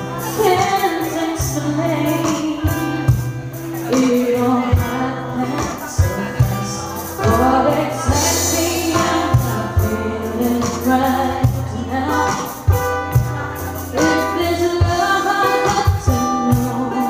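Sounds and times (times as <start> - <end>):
bass: 0.0 - 17.0
woman singing into microphone: 0.0 - 17.0.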